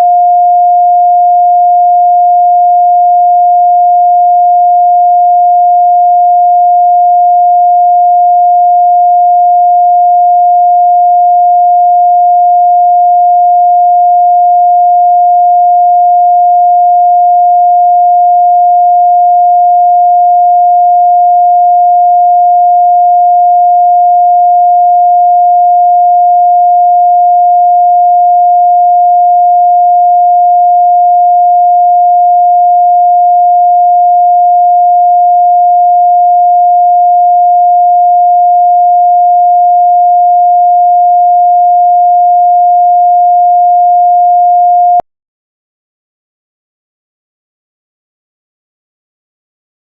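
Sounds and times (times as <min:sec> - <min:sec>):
sine-wave test tone: 0:00.0 - 0:45.1.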